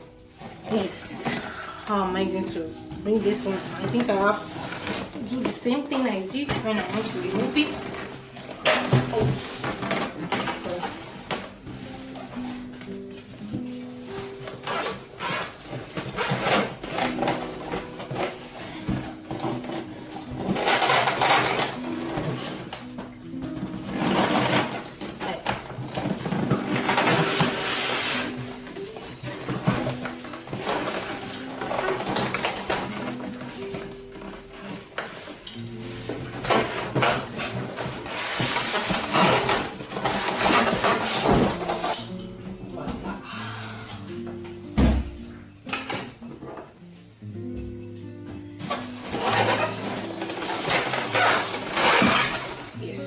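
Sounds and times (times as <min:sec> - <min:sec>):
soft background tune: 0:00.0 - 0:53.0
cardboard scraping and rustling: 0:00.1 - 0:42.1, 0:48.6 - 0:53.0.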